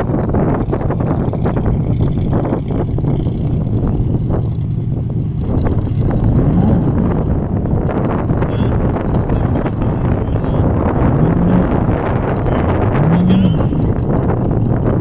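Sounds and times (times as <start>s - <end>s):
buggy engine droning: 0.0s - 15.0s
wind buffeting microphone: 0.0s - 15.0s.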